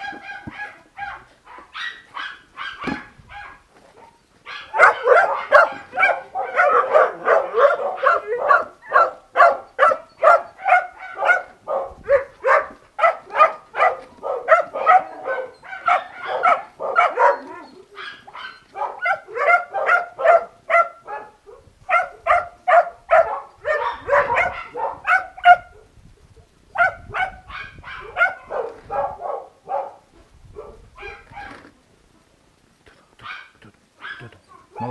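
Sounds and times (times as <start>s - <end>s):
dog barking: 0.0s - 25.9s, 26.8s - 31.7s, 33.2s - 34.9s.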